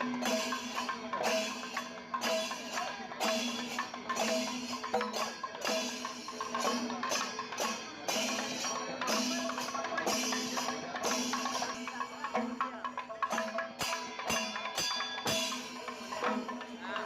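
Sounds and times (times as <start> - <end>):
woody percussion beat: 0.0 - 17.0.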